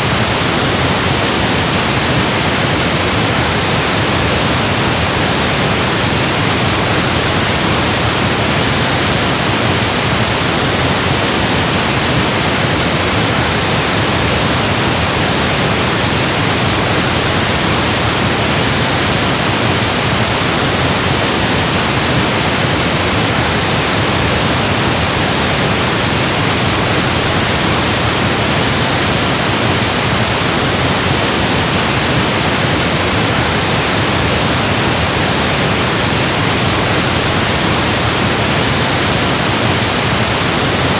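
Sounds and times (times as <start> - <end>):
steady pink noise hiss: 0.0 - 40.9.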